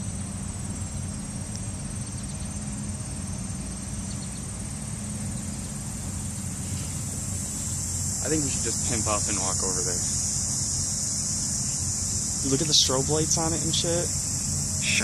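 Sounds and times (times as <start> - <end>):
insects trilling: 0.0 - 15.0
low steady hum: 0.0 - 15.0.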